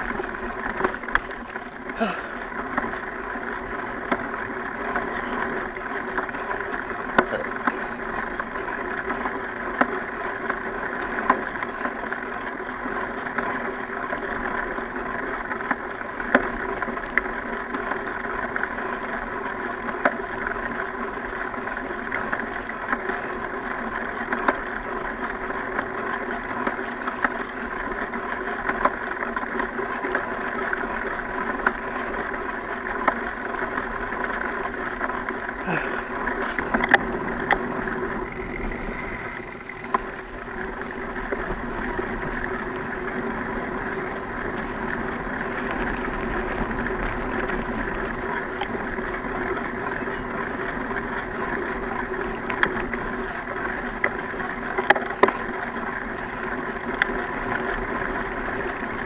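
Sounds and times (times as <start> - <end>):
bike clicks and knocks: 0.0 - 59.0
bike tyres rolling on dirt: 0.0 - 59.0.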